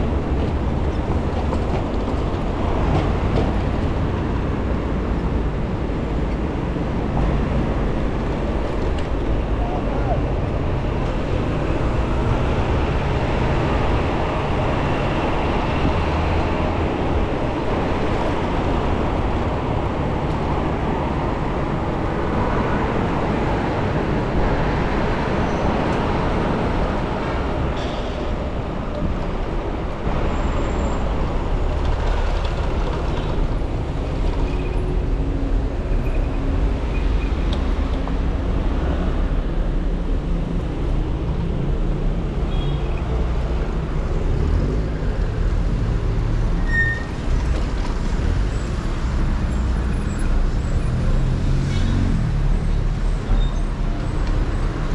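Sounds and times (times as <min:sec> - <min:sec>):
city street traffic: 0:00.0 - 0:54.9.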